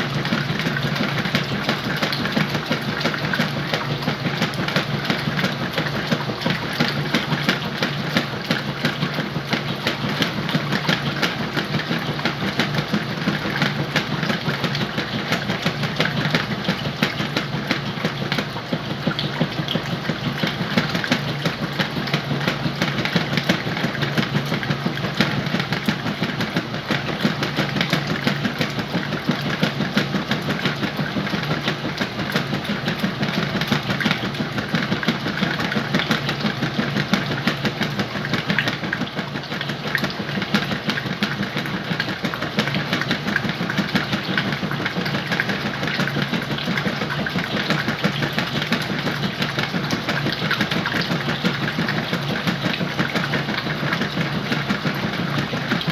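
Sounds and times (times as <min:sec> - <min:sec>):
washing machine motor hum: 0:00.0 - 0:55.9
washing machine rattle: 0:00.0 - 0:55.9.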